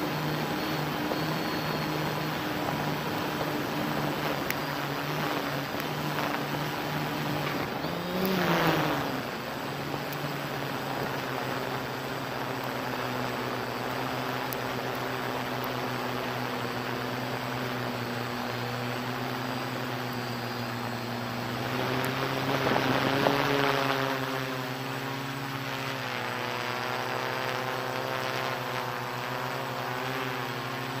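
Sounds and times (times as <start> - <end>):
drone propellers humming: 0.0 - 31.0.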